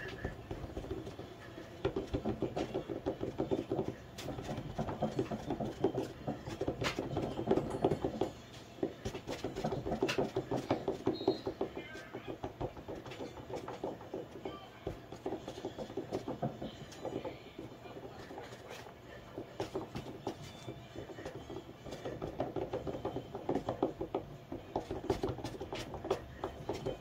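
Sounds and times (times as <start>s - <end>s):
hands rolling clay on wood: 0.0s - 27.0s.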